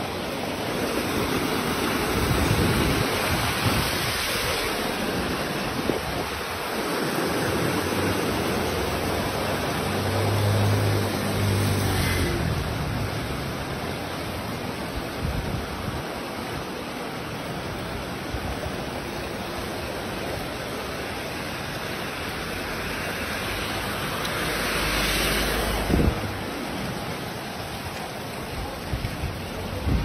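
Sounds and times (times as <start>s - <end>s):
heavy rain and rushing water: 0.0s - 30.0s.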